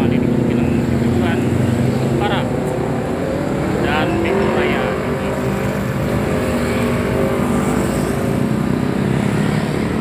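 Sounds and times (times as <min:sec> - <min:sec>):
diesel coach engines running: 0:00.0 - 0:10.0
road traffic noise: 0:00.0 - 0:10.0.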